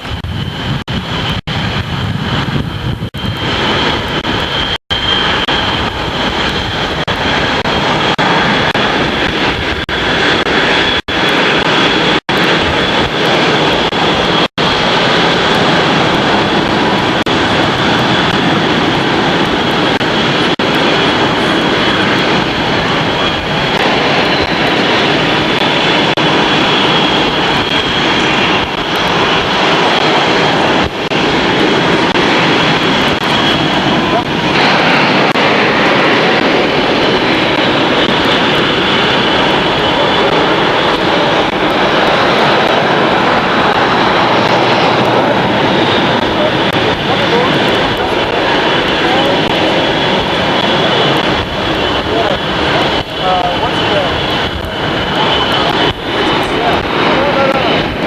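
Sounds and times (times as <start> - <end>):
aircraft engine running: 0.0 - 58.0
high engine whine: 0.0 - 58.0.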